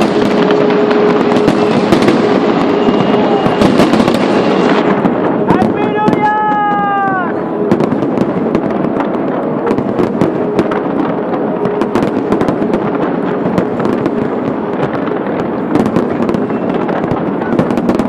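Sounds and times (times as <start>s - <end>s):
fireworks popping and crackling: 0.0s - 18.0s.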